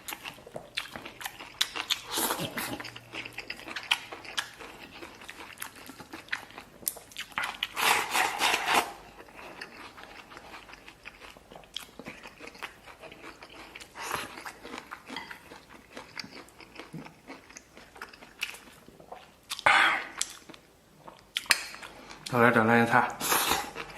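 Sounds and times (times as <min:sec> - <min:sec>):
wet crunchy chewing: 0:00.0 - 0:22.3.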